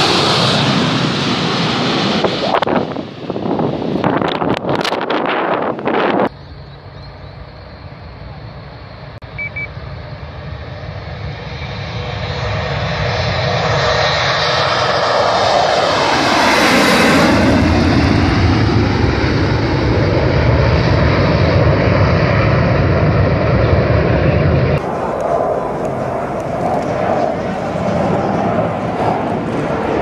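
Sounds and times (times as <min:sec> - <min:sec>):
jet flying overhead: 0:00.0 - 0:30.0
low rumble of jet climbing: 0:00.0 - 0:30.0.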